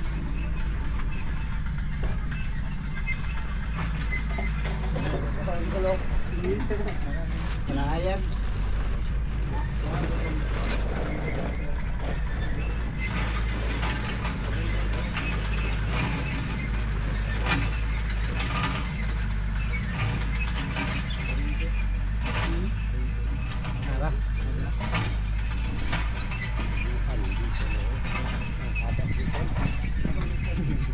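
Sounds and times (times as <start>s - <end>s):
low engine drone: 0.0s - 30.9s.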